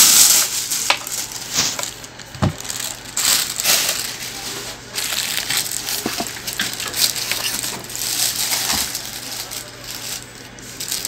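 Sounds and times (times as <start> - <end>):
plastic packaging crinkling: 0.0 - 11.0
steady low hum: 0.0 - 11.0.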